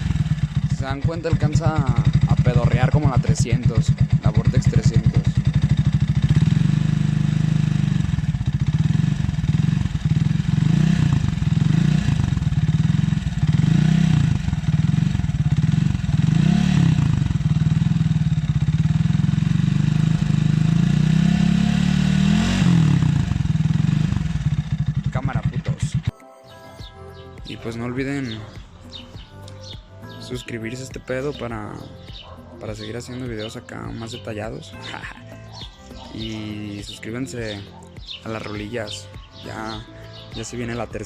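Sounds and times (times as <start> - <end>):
motorcycle engine revving: 0.0 - 26.1, 31.0 - 41.0.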